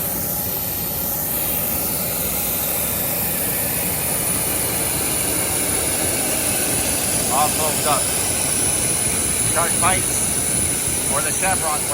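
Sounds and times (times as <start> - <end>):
high-pitched whine: 0.0 - 11.9
jet turbine noise: 0.0 - 11.9.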